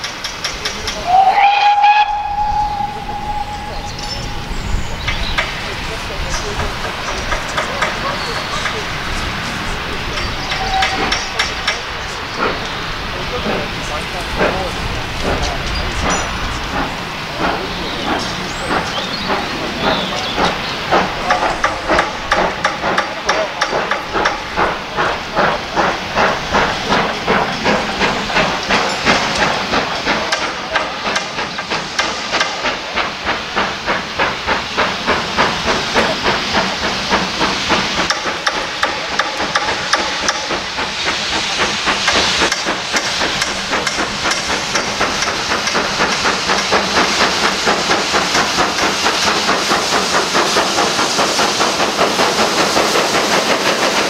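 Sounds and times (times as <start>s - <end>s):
hissing steam: 0.0s - 54.0s
steam locomotive exhaust chuffs: 0.0s - 54.0s.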